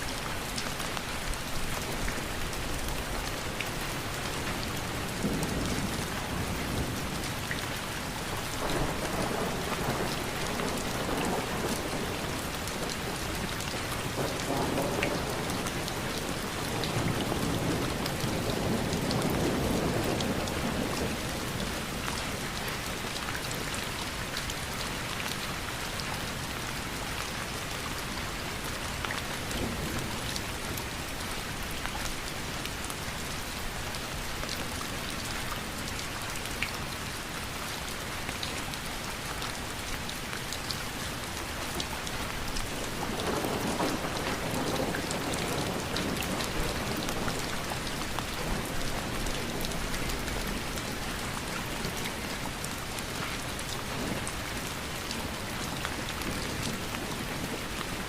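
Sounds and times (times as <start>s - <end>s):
raindrops ticking on a surface: 0.0s - 58.0s
steady rain falling: 0.0s - 58.0s.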